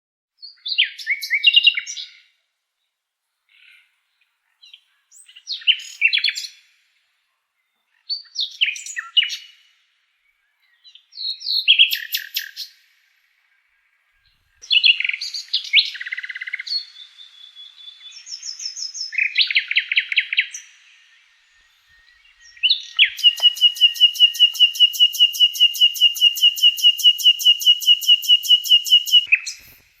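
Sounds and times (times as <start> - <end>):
nightingale singing: 0.4 - 2.3, 3.5 - 6.8, 7.6 - 30.0.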